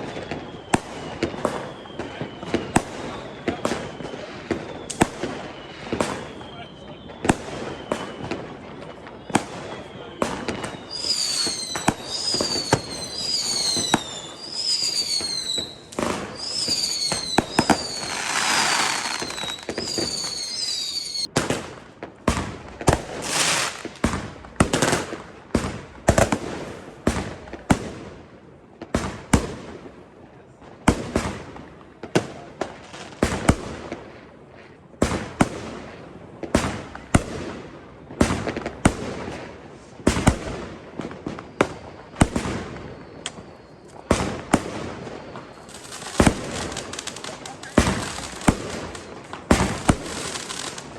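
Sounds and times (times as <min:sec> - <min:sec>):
falling firework whistles: 0:00.0 - 0:21.7, 0:22.3 - 0:27.9, 0:36.6 - 0:50.9
firework bangs and crackling: 0:00.0 - 0:50.9.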